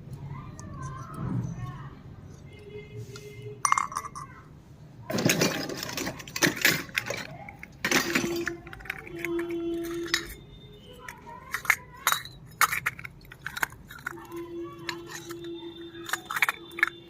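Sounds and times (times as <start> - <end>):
small utensils clinking: 0.0 - 2.8, 3.6 - 4.5, 5.1 - 17.0.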